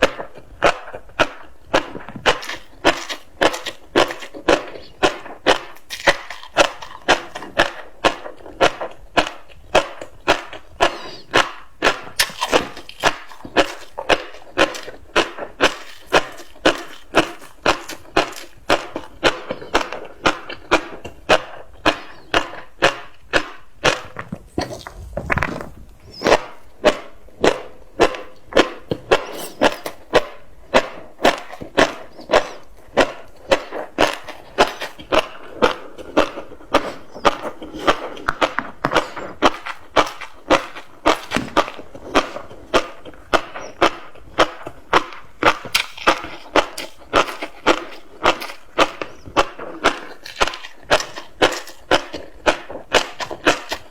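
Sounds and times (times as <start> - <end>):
chewing crunchy fish roe: 0.0 - 53.9.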